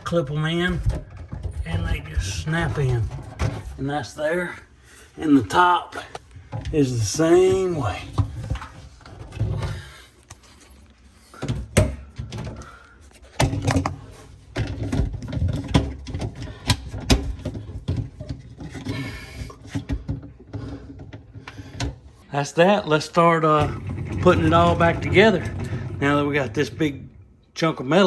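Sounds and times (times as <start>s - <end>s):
dishwasher parts clicking and rattling: 0.0s - 4.6s, 5.4s - 22.2s, 23.4s - 27.2s.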